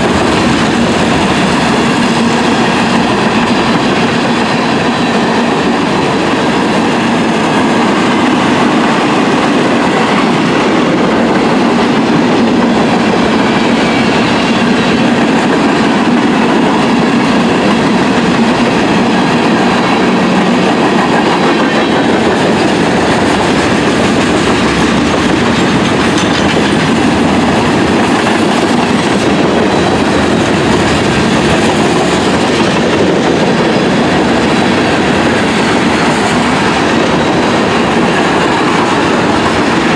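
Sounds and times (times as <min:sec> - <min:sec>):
freight train wheels rumbling: 0:00.0 - 0:39.9
wheels clacking over rail joints: 0:00.0 - 0:39.9.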